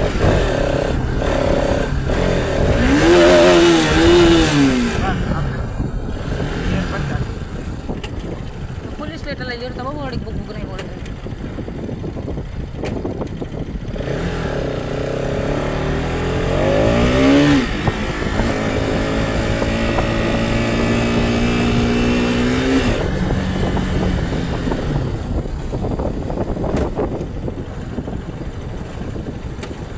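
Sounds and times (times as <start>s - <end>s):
motorcycle engine revving: 0.0s - 29.9s
wind and road noise: 0.0s - 29.9s.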